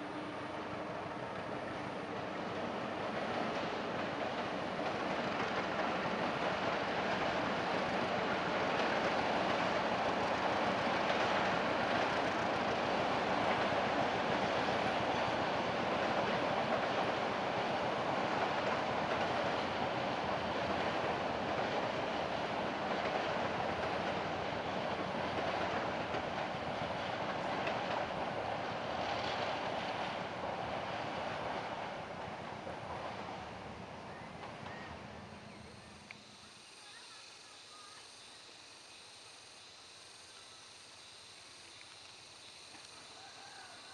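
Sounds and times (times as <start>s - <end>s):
train rolling over bridge: 0.0s - 36.4s.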